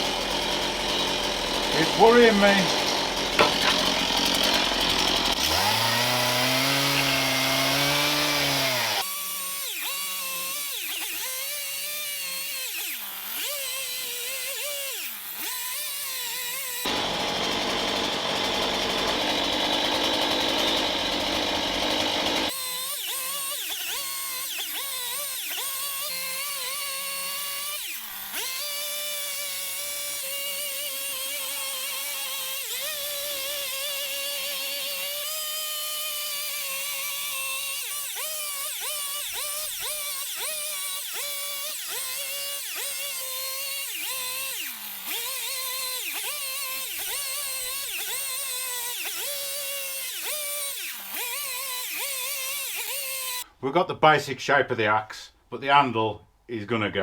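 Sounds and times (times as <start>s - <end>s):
chainsaw carving wood: 0.0s - 53.6s.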